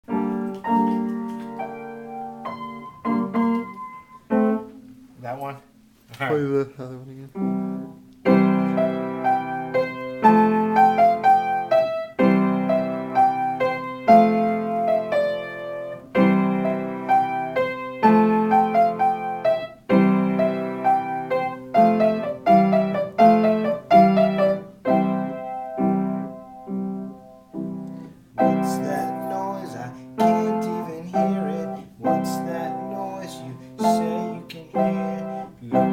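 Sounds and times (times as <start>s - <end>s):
slow piano chords and melody: 0.0s - 35.9s.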